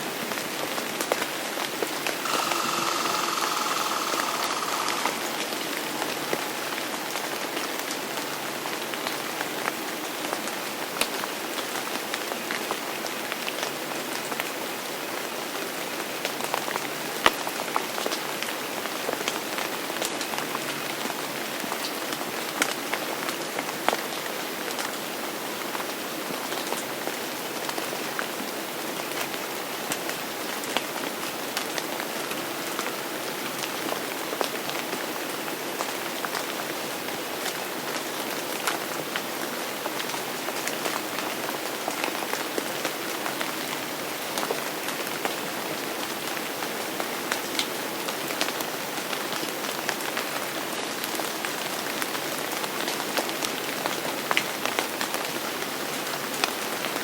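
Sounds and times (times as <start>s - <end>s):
steady rain with drop ticks: 2.3s - 5.2s, 7.0s - 57.0s.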